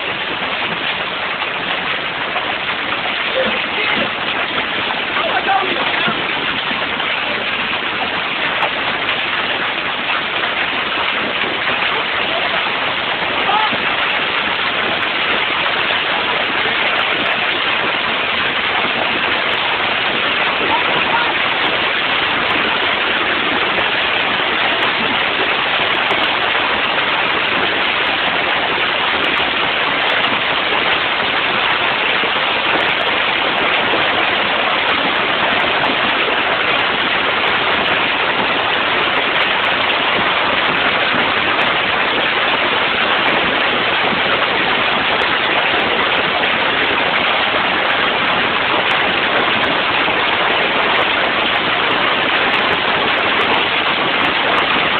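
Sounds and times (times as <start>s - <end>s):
hail clattering on pavement and cars: 0.0s - 54.9s
rain pelting pavement: 0.0s - 54.9s.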